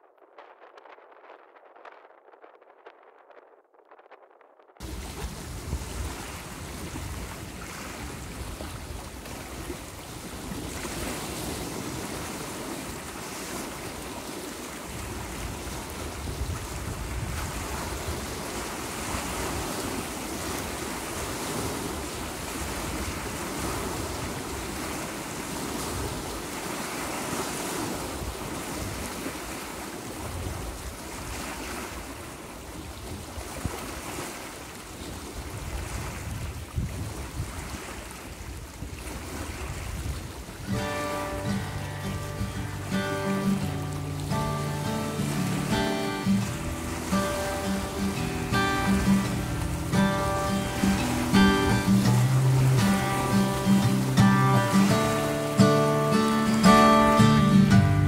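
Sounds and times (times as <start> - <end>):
wind buffeting microphone: 0.0 - 58.0
waves breaking on rocky shore: 4.8 - 58.0.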